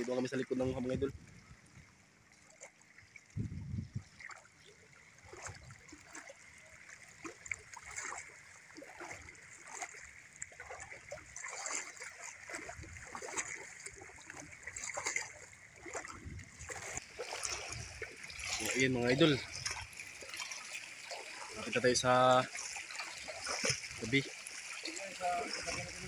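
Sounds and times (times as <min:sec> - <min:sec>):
feet wading through water: 0:00.0 - 0:26.0.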